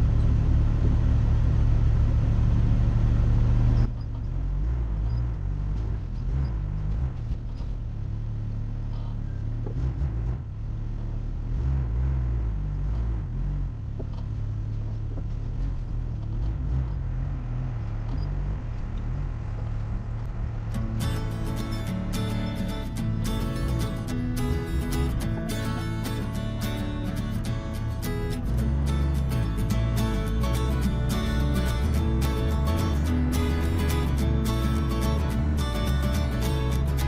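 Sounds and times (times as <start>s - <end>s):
off-road vehicle engine: 0.0s - 37.0s.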